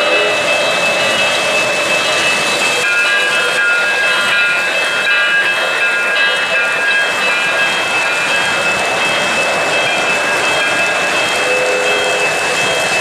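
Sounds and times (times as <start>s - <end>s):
train rolling on rails: 0.0s - 13.0s.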